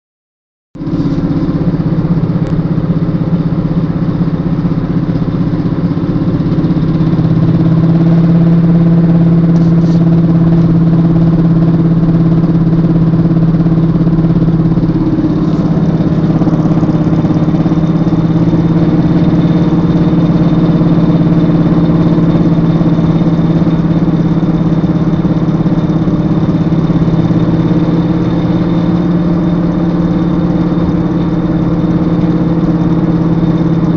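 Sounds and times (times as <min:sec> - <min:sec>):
car low drone hum: 0:00.8 - 0:33.9.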